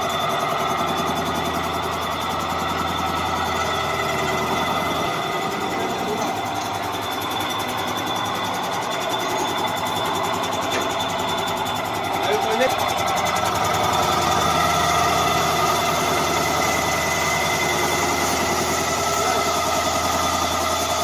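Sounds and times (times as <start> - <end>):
machine droning: 0.0 - 21.0.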